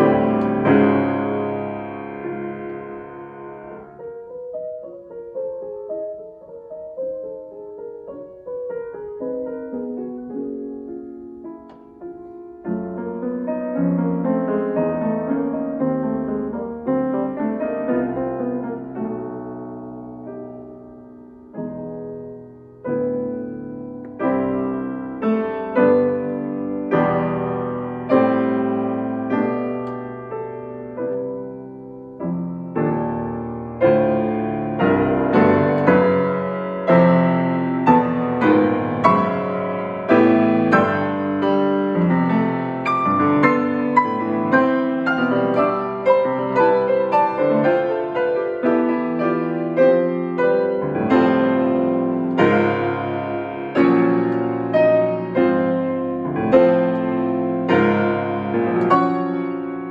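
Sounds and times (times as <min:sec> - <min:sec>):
slow classical solo piano: 0:00.0 - 0:59.9.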